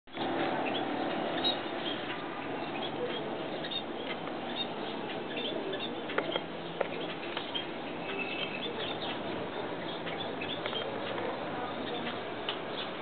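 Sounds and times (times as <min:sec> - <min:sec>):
young birds chirping: 0:00.1 - 0:13.0.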